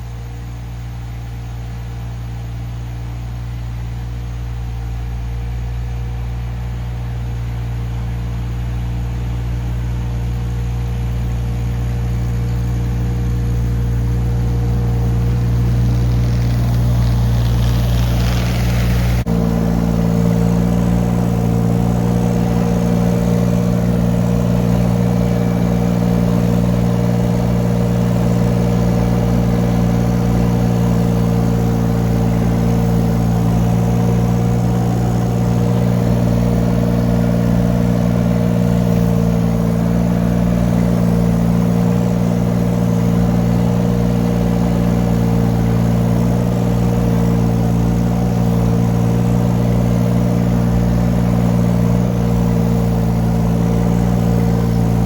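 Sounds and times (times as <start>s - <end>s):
excavator engine humming: 0.0s - 55.0s.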